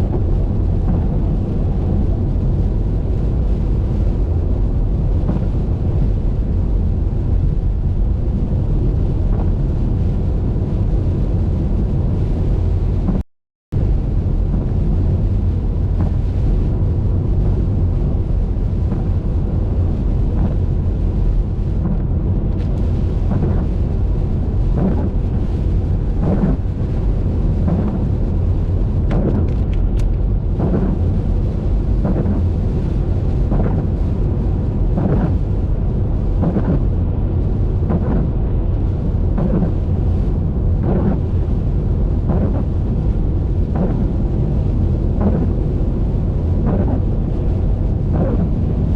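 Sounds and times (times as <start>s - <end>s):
windscreen wipers swishing: 0.0s - 13.2s, 13.8s - 48.9s
road and engine rumble: 0.0s - 48.9s.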